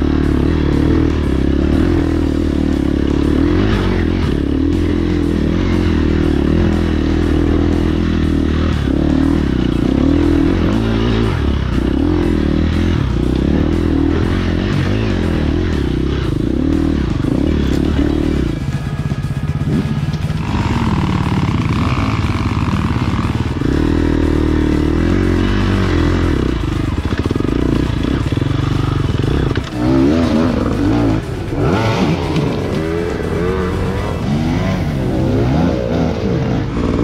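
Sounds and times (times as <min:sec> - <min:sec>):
off-road vehicle engine running: 0:00.0 - 0:37.0.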